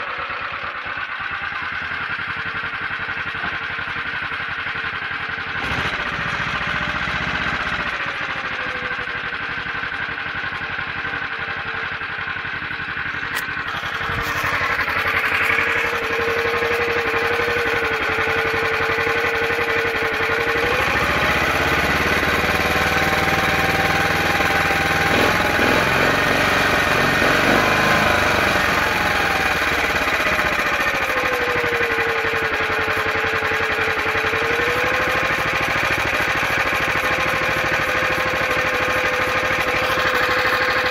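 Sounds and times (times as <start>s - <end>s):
tractor engine idling and revving: 0.0s - 40.9s.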